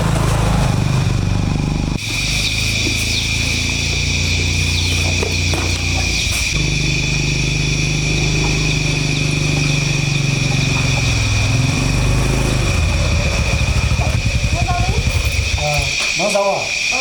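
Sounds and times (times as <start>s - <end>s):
motorbike engine running: 0.0s - 17.0s
steady high-pitched tone: 2.1s - 17.0s.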